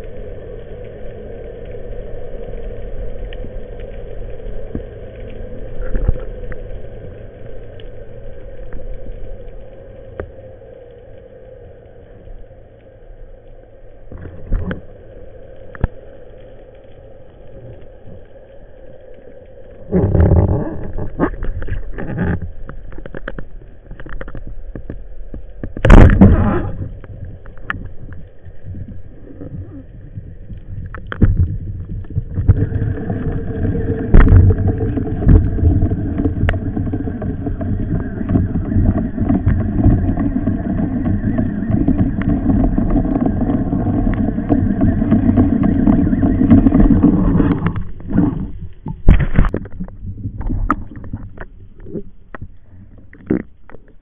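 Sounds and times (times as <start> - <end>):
muffled underwater hum: 0.0 - 54.0
rushes of noise: 0.0 - 54.0.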